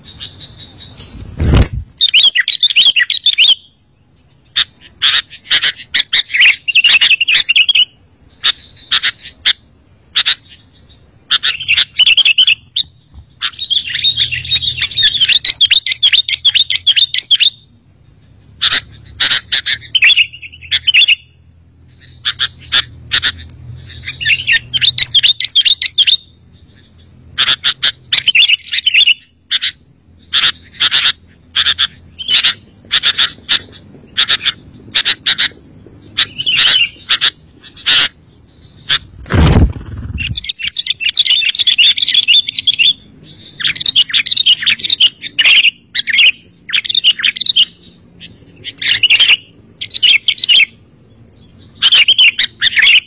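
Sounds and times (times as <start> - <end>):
bird chattering chirps: 2.0 - 17.7, 18.4 - 53.0.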